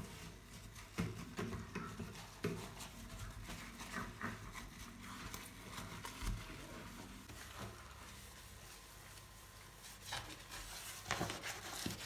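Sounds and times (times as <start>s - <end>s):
wet sponge scrubbing glass: 0.0s - 12.0s.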